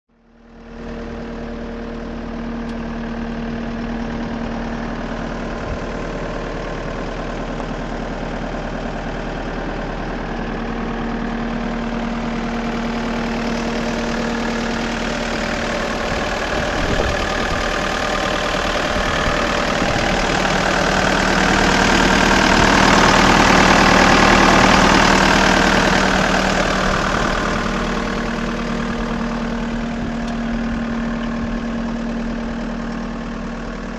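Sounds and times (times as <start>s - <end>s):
diesel engine idling: 0.2s - 33.9s.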